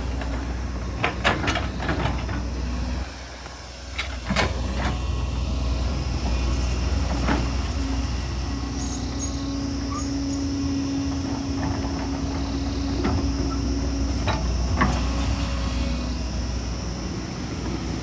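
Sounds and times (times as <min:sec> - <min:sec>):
diesel engine rumbling: 0:00.0 - 0:18.0
steady droning tone: 0:00.0 - 0:18.0.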